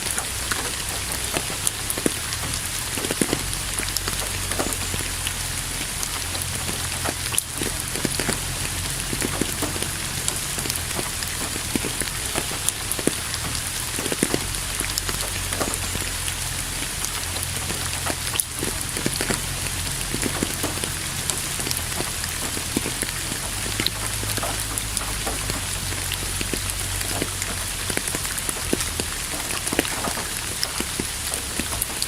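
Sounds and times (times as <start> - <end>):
rain falling: 0.0 - 32.0
raindrops tapping: 0.0 - 32.0.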